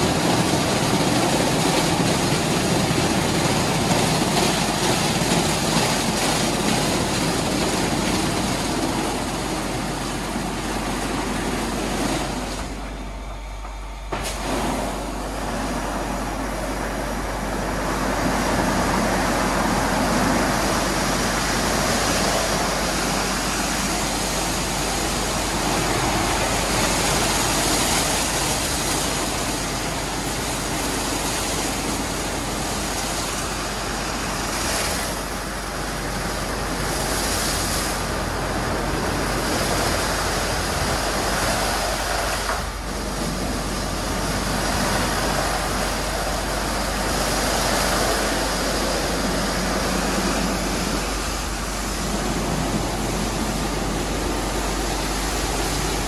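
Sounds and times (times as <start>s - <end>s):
car wash gantry drive: 0.0s - 56.0s.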